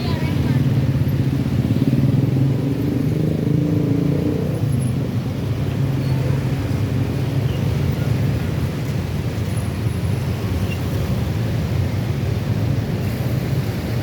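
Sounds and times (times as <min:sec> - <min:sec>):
engines humming: 0:00.0 - 0:14.0.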